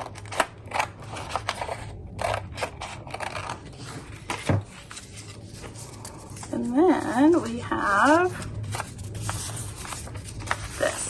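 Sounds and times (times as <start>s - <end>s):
scissors cutting paper: 0.0s - 11.0s.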